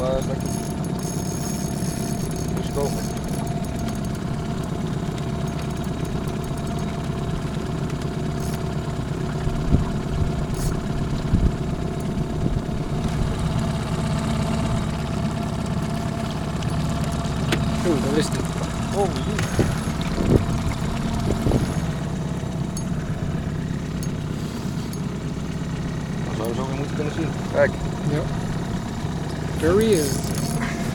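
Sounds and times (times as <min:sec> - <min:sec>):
boat motor humming: 0:00.0 - 0:30.9.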